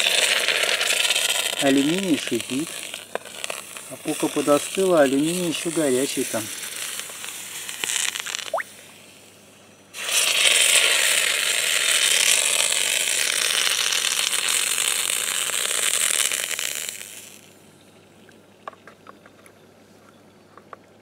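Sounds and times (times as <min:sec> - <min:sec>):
hot metal hissing in water: 0:00.0 - 0:17.6.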